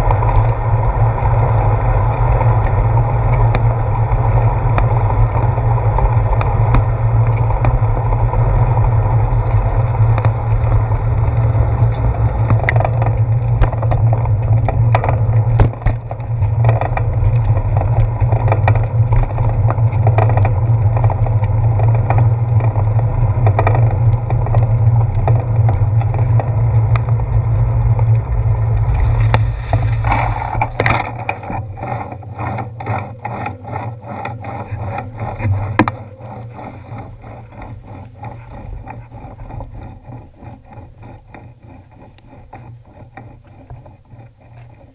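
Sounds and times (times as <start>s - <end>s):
bicycle rolling over pavement: 0.0s - 44.9s
wind buffeting camera: 0.0s - 44.9s.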